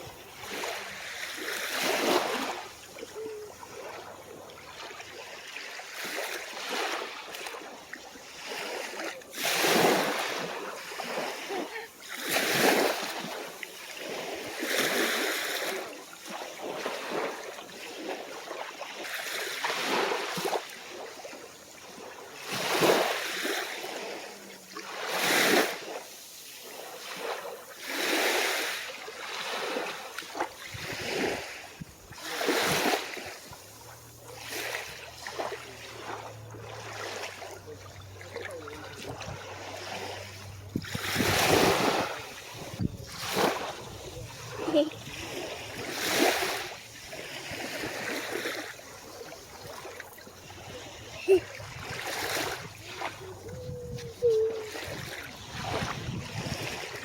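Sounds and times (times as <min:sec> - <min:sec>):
small waves washing onto beach: 0:00.0 - 0:57.0.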